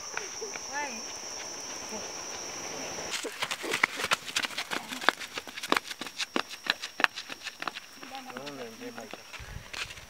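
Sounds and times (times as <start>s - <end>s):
children running on dirt road: 0.0s - 10.0s.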